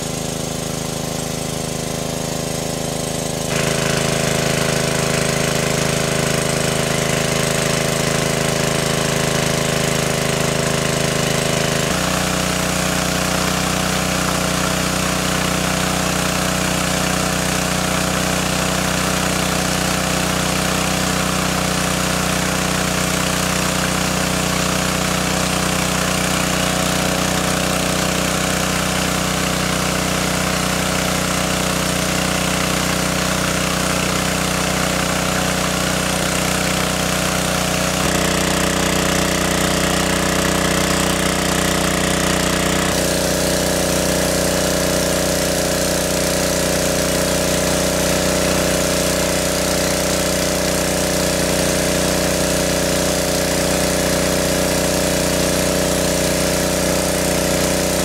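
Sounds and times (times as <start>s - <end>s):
engine-driven water pump running: 0.0s - 58.0s.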